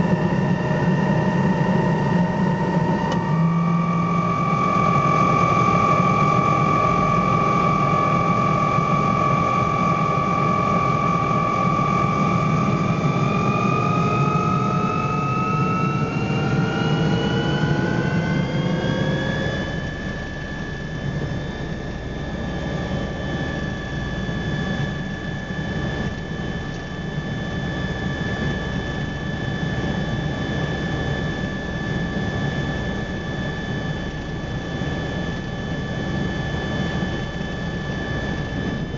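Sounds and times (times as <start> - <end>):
helicopter turbine whine: 0.0 - 38.9
low hum: 0.0 - 38.9.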